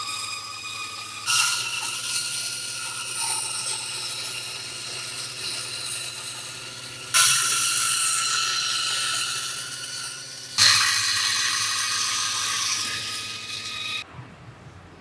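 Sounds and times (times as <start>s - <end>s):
electric power tool whining: 0.0s - 14.0s.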